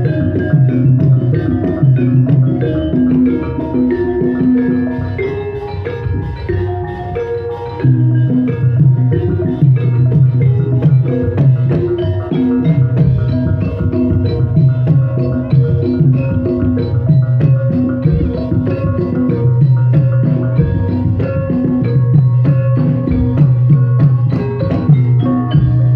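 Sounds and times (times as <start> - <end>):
drum beat: 0.0 - 25.9
metallophones struck with mallets: 0.0 - 25.9.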